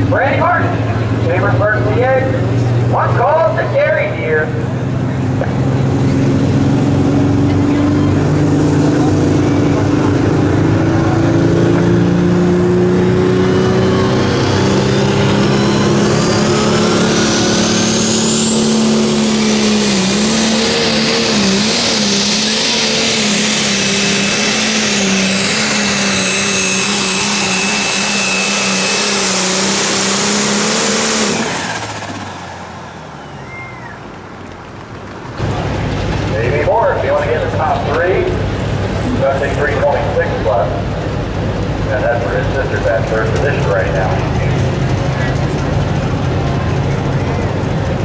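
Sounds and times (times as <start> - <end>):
tractor engine at high revs: 0.0 - 48.0.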